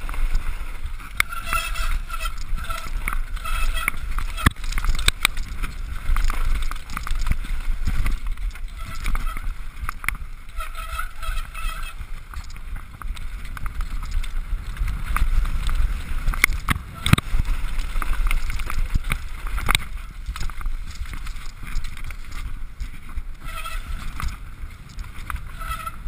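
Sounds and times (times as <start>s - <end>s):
mountain bike rattling: 0.0s - 26.0s
wind buffeting microphone: 0.0s - 26.0s.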